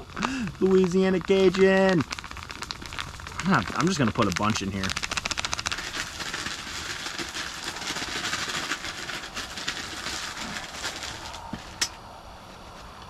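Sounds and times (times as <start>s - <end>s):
plastic bag crinkling and rustling: 0.0s - 13.0s.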